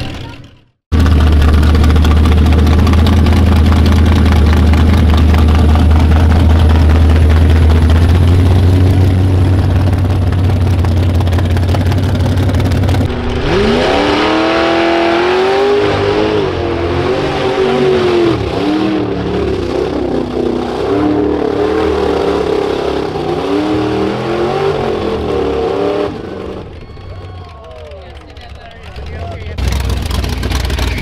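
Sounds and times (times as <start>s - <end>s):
truck engine at high idle: 0.0s - 13.8s, 16.1s - 31.0s
truck engine revving: 0.0s - 31.0s.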